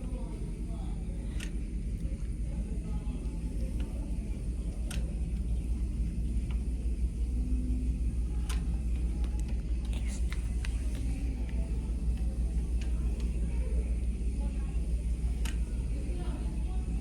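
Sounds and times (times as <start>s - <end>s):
low corridor hum: 0.0s - 17.0s.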